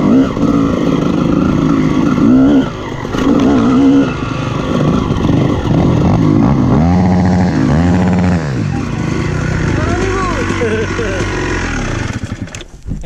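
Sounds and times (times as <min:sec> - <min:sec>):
two-stroke motorcycle engine revving: 0:00.0 - 0:12.7.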